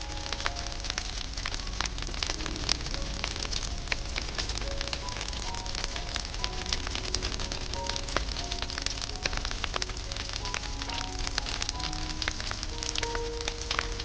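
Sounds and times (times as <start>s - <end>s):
soft melody notes: 0.0s - 14.0s
wood fire crackling: 0.0s - 14.0s.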